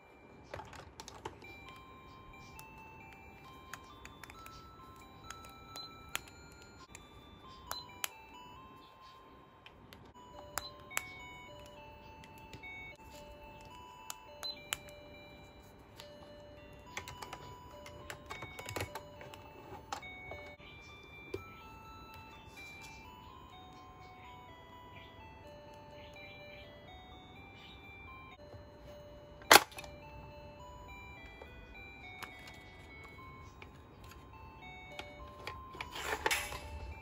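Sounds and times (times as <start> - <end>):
simple electronic melody: 0.0 - 37.0.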